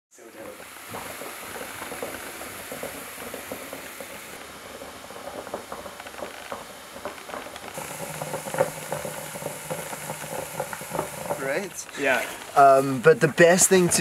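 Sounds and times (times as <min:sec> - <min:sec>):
small crackles and ticks: 0:00.3 - 0:14.0
water simmering and bubbling: 0:00.4 - 0:12.6.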